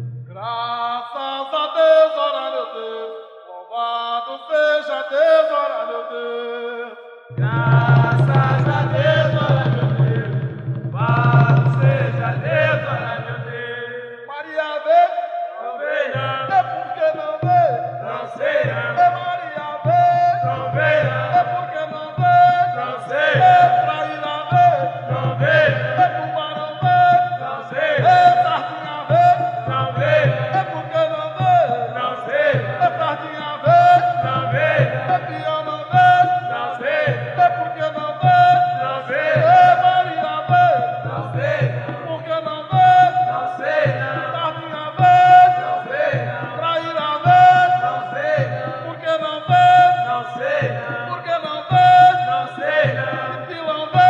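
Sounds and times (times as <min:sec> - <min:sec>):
person chanting a melody: 0:03.6 - 0:10.4, 0:14.6 - 0:54.0.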